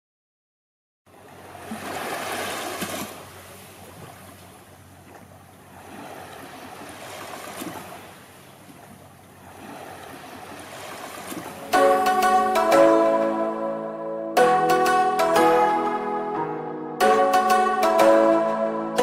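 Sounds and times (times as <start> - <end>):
sea waves washing in: 1.1 - 19.0.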